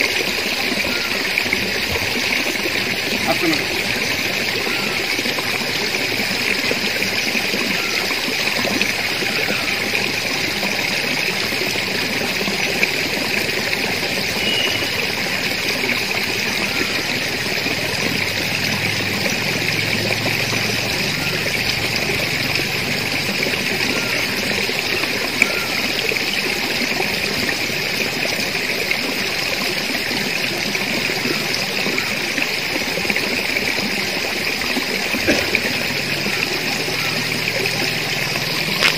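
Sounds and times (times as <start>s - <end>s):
steady outdoor hiss: 0.0s - 38.9s.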